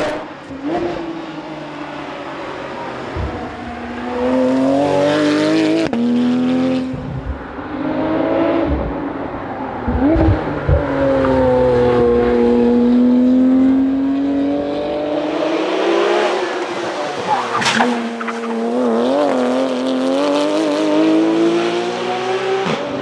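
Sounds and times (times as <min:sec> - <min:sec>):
car engine revving high: 0:00.0 - 0:23.0.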